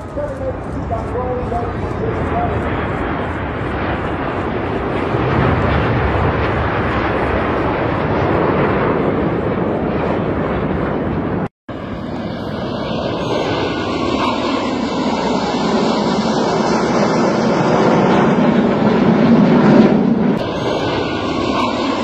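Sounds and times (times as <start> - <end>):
jet aircraft flying over: 0.0 - 22.0.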